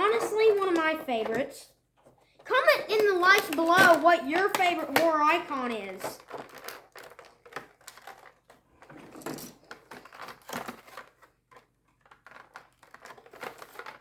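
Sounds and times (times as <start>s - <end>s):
packaging clicks and taps: 0.0s - 14.0s.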